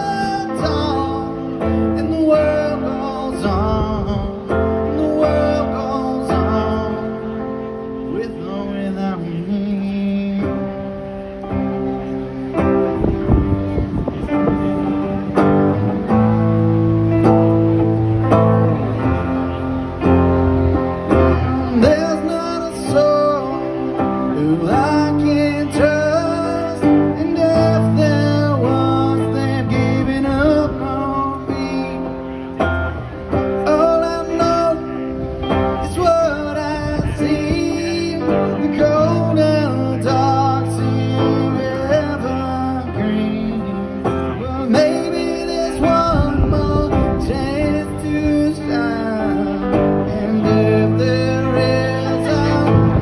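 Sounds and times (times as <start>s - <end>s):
man singing: 0.0s - 13.3s, 18.0s - 53.0s
electric guitar chords: 0.0s - 53.0s
keyboard chords: 0.0s - 53.0s.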